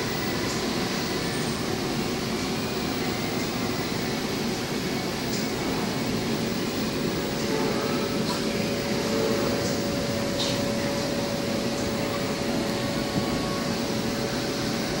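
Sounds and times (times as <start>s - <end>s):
electric blower fan whirring: 0.0s - 15.0s.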